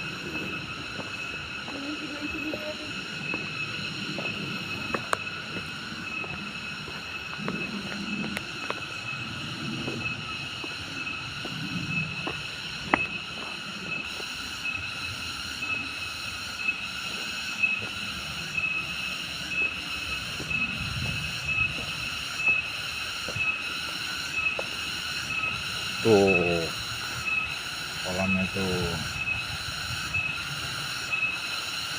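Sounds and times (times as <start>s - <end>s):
shrill insect drone: 0.0s - 31.9s.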